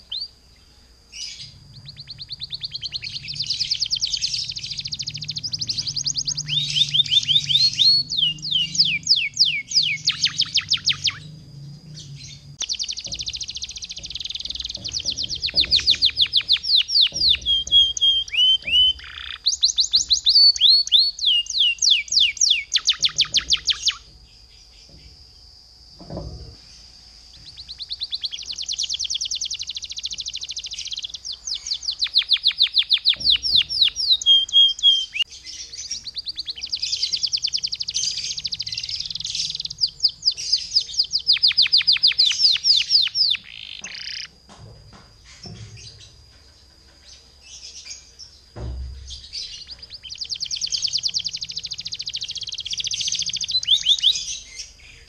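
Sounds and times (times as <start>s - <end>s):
canary singing trills: 0.0s - 44.5s, 45.2s - 55.0s.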